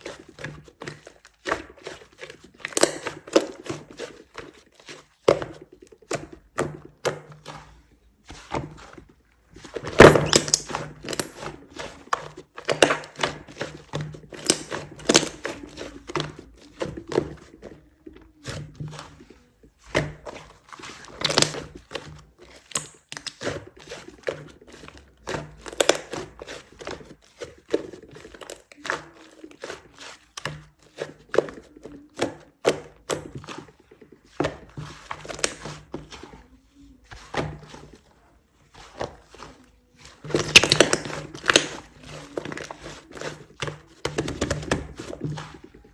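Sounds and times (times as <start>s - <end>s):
hands squishing clay slime: 0.0s - 45.9s.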